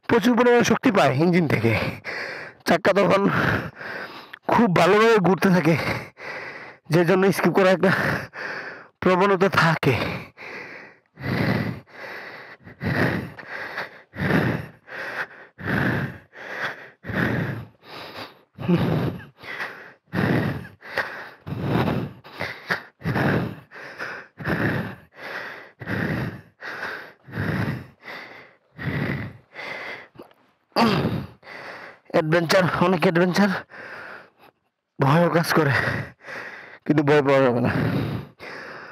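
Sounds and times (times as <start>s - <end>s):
man panting hard: 0.9s - 38.9s.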